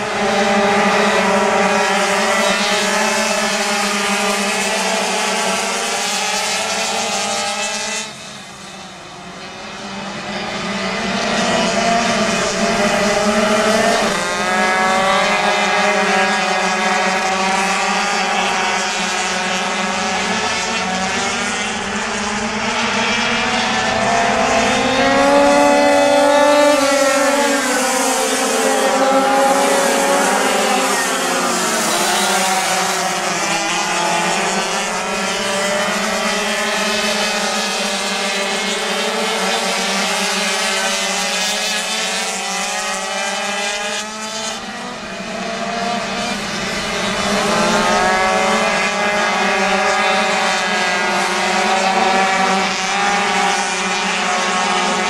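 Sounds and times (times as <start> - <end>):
small engines whining at high revs: 0.0 - 55.0.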